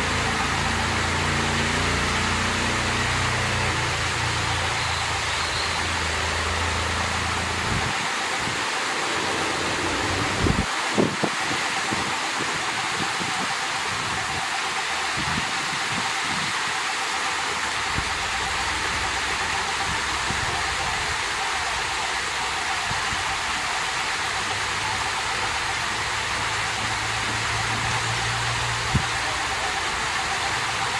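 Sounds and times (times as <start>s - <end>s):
water rushing: 0.0s - 30.9s.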